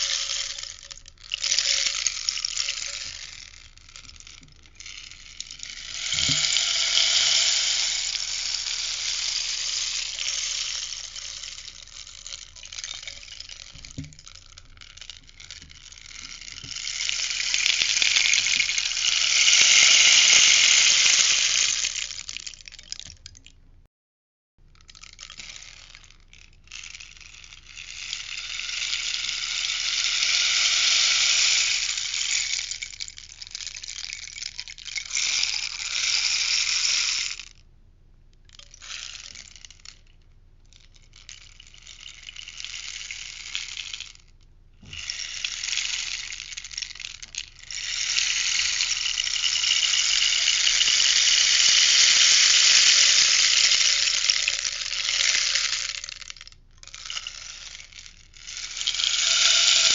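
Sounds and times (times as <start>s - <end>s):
rainstick trickling rattle: 0.0s - 23.6s, 24.7s - 37.6s, 38.4s - 59.9s.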